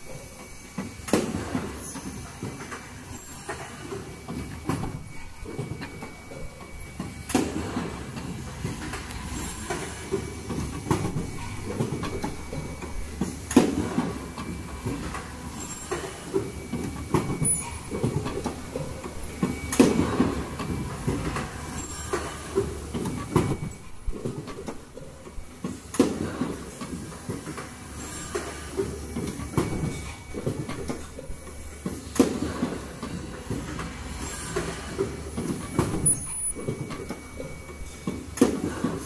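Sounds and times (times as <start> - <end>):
machine clatter: 0.0 - 39.0
loud mechanical clack: 0.4 - 6.1, 7.0 - 25.0, 25.9 - 37.2.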